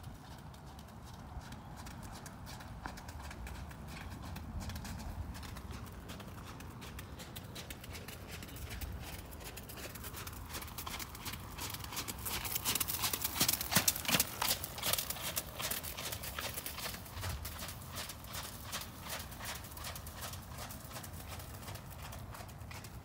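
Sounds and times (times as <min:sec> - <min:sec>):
horse hoofbeats on wet footing: 0:00.0 - 0:23.0.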